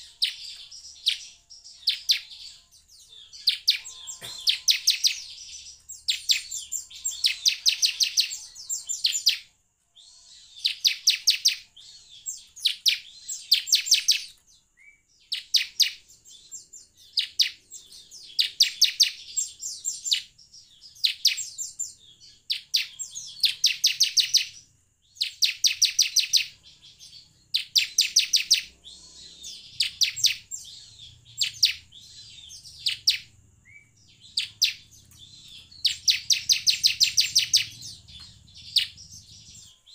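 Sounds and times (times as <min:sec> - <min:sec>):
bird singing high chipping notes: 0:00.0 - 0:39.9.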